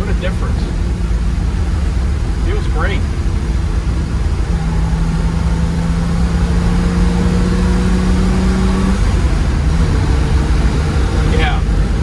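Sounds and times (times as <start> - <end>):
car engine pulling under way: 0.0 - 12.0.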